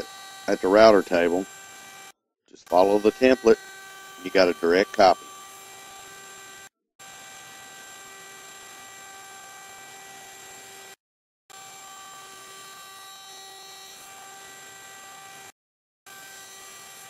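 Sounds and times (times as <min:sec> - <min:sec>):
router whining: 0:00.0 - 0:15.5, 0:16.1 - 0:17.0.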